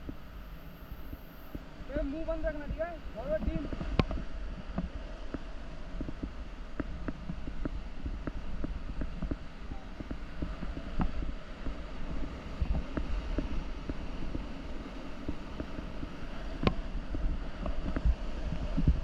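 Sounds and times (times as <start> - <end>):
river water rumble: 0.0 - 19.0
wind buffeting microphone: 0.0 - 19.0.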